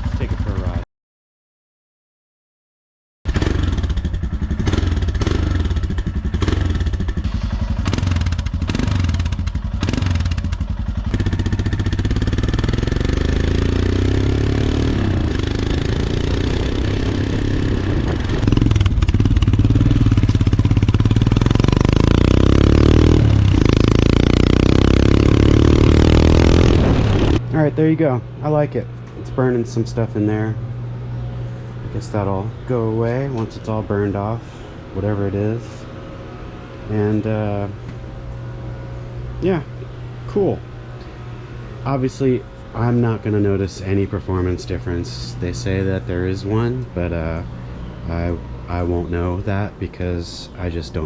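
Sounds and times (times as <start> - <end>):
motorcycle engine deep exhaust note: 0.0 - 0.8, 3.3 - 50.9.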